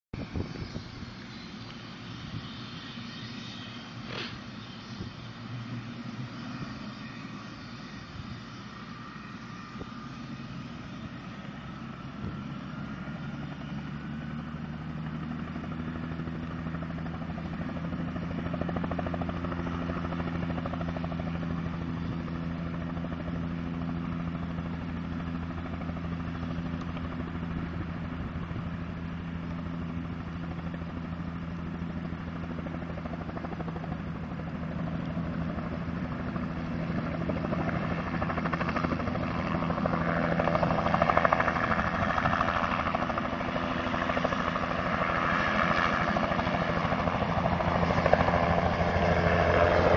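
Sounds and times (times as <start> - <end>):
faint rising whine: 0.2 - 49.9
helicopter running: 0.2 - 49.9.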